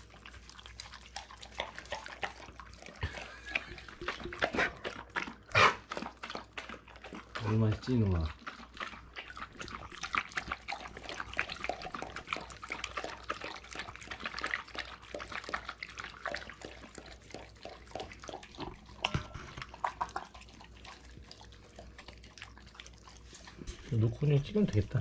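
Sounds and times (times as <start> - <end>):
dog chewing wetly: 0.0 - 25.0.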